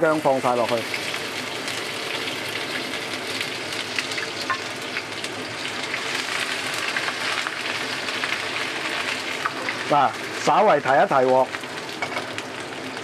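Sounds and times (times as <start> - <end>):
ginger sizzling in a wok: 0.0 - 13.0.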